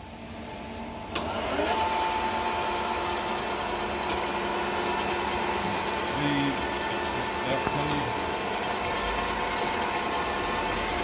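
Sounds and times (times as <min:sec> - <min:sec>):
gearing mechanical whine: 0:00.0 - 0:11.0
lathe motor running: 0:00.0 - 0:11.0.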